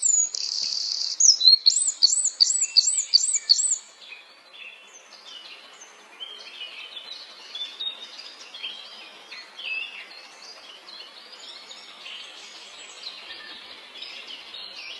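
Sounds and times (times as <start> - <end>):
songbird singing: 0.0 - 14.9
steady background hiss: 0.0 - 14.9.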